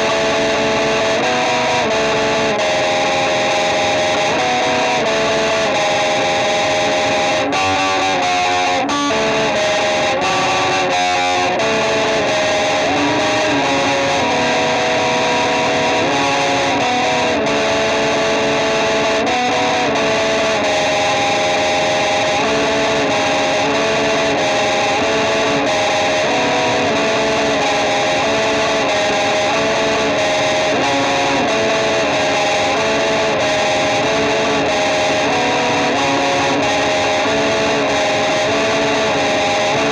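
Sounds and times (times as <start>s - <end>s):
band music with distorted guitar: 0.0s - 39.9s.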